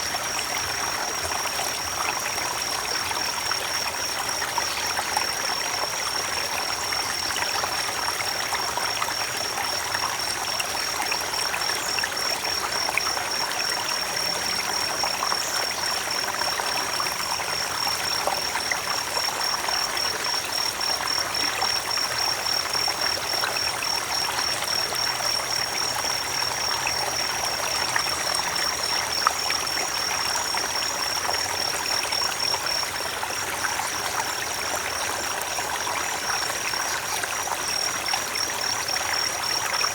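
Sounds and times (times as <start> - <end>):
creek water running over stones: 0.0 - 39.9.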